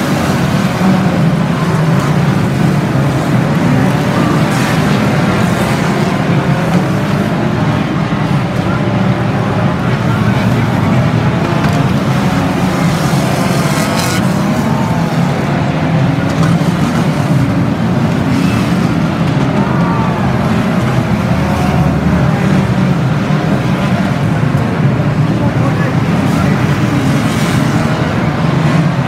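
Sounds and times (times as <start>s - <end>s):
racing car engines revving: 0.0s - 29.0s.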